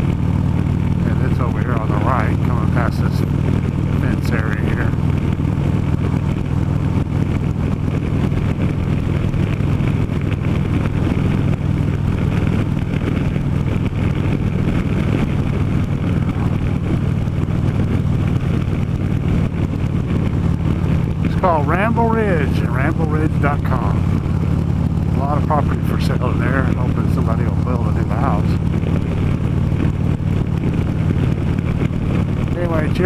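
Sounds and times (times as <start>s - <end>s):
motorcycle engine cruising: 0.0s - 33.0s.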